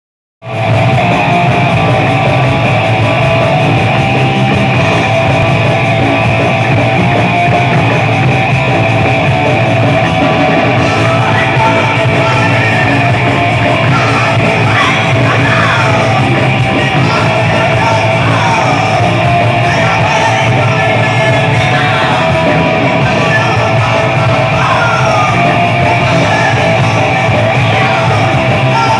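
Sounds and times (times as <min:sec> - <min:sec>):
thrash metal band playing: 0:00.4 - 0:28.9
yelled vocals: 0:00.5 - 0:28.9.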